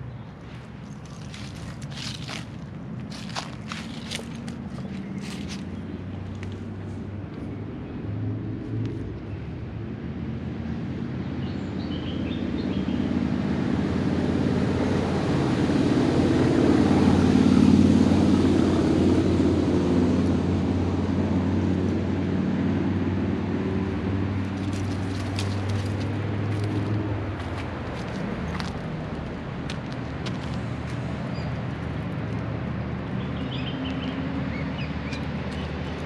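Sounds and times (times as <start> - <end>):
vehicle engine drone: 0.0 - 36.0.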